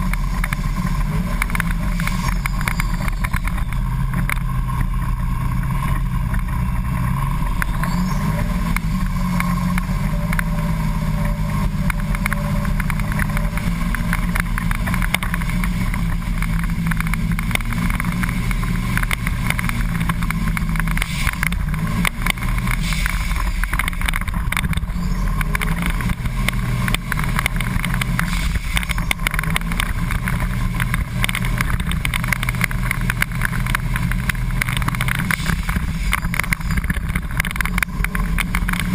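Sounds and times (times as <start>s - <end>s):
bus engine running hard: 0.0s - 38.9s.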